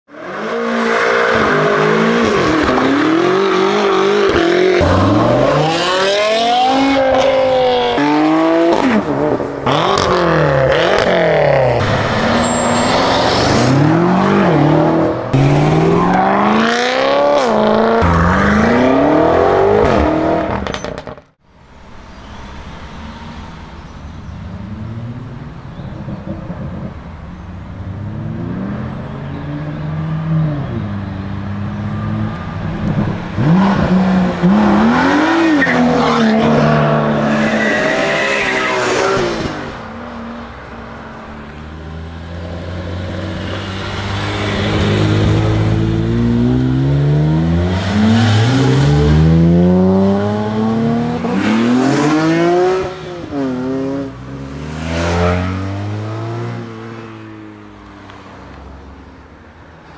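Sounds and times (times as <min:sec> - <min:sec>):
car engines revving hard: 0:00.1 - 0:21.4, 0:22.2 - 0:58.7.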